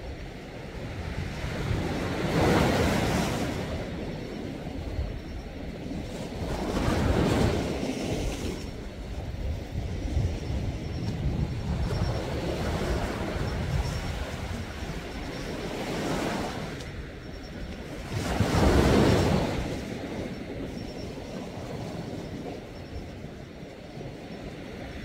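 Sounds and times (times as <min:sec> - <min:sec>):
sea waves washing ashore: 0:00.0 - 0:25.0.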